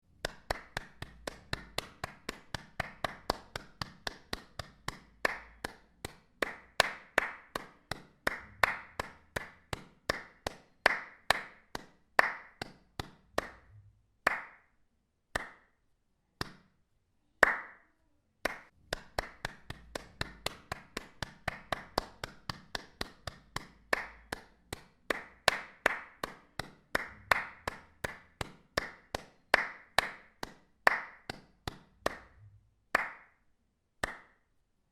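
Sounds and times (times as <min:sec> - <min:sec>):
hand claps: 0:00.1 - 0:15.8, 0:16.4 - 0:16.8, 0:17.4 - 0:34.6.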